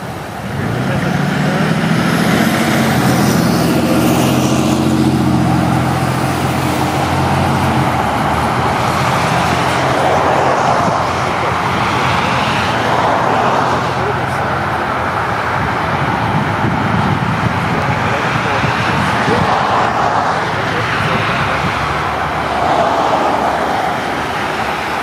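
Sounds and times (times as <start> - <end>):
engine hum: 0.0 - 25.0
traffic rushing: 0.0 - 25.0.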